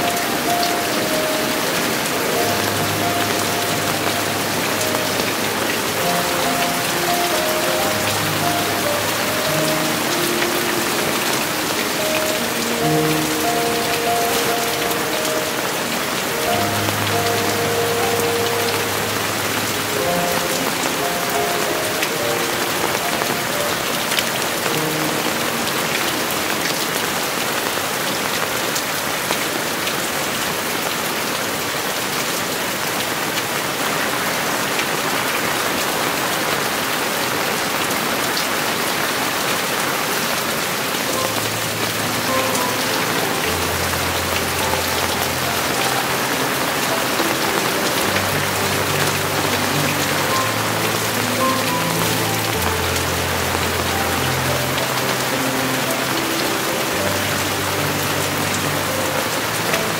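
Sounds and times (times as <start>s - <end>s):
soft background music: 0.0s - 29.7s, 40.1s - 59.9s
heavy rain downpour: 0.0s - 59.9s.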